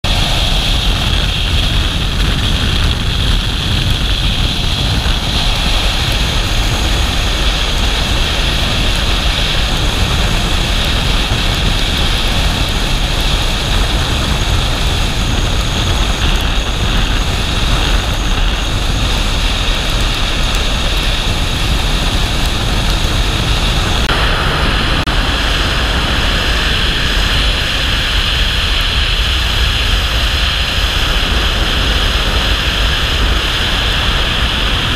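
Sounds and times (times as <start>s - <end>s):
vehicle road noise at speed: 0.0s - 34.9s.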